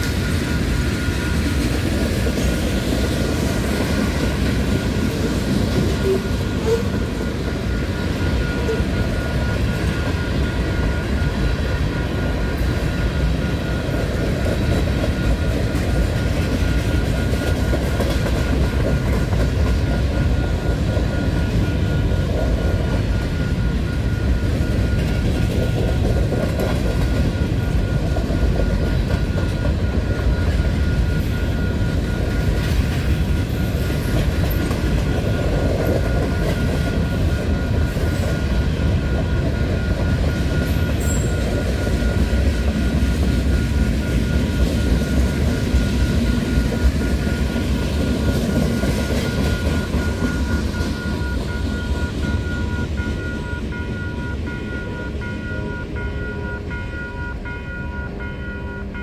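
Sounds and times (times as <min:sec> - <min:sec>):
train wheels clacking on rails: 0:00.0 - 0:59.0.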